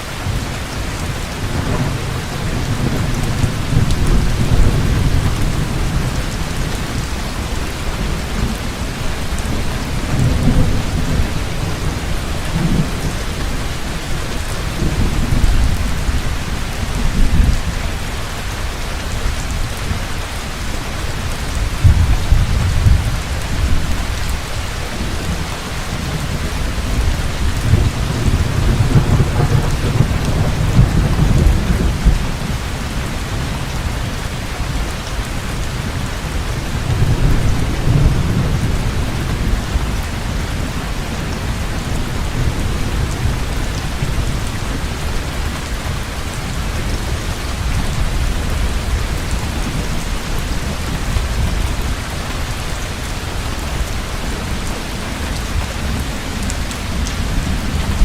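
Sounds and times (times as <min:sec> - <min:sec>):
heavy rain: 0:00.0 - 0:58.0
rolling thunder: 0:00.2 - 0:18.1, 0:21.2 - 0:52.8.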